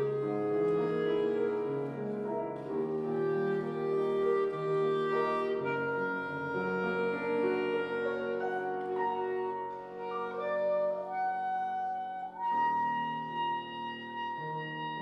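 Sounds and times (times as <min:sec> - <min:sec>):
clarinet playing: 0:00.0 - 0:15.0
piano accompaniment: 0:00.0 - 0:15.0.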